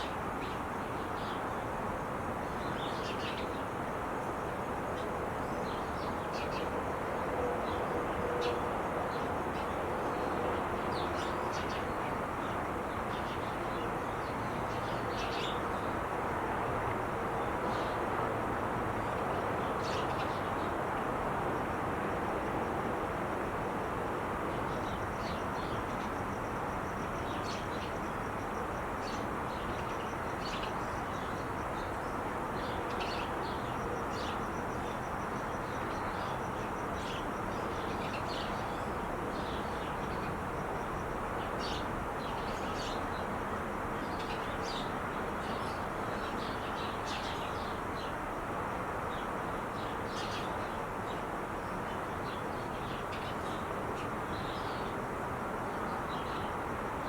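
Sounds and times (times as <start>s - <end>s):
freeway traffic roar: 3.7s - 57.0s.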